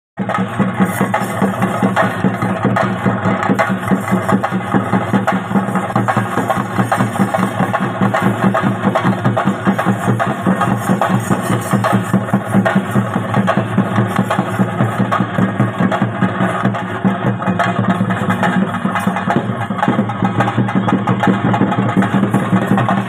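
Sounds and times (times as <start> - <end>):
drums beaten in fast rhythm: 0.2 - 23.0.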